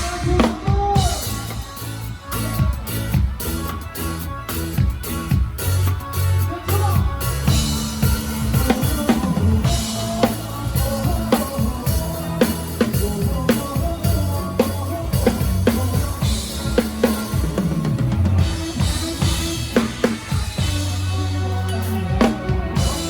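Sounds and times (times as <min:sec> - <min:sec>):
bass guitar: 0:00.0 - 0:23.0
live drum kit playing: 0:00.0 - 0:23.0.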